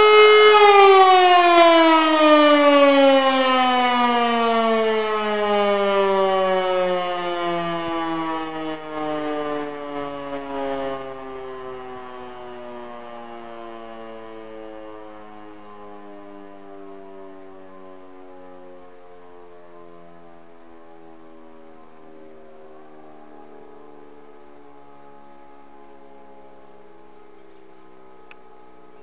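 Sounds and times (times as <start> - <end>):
electric siren winding down: 0.0 - 29.0.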